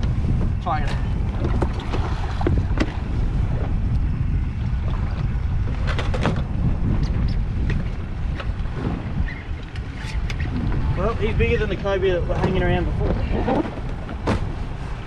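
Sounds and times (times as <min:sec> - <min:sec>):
water slapping hull: 0:00.0 - 0:15.0
wind buffeting microphone: 0:00.0 - 0:15.0.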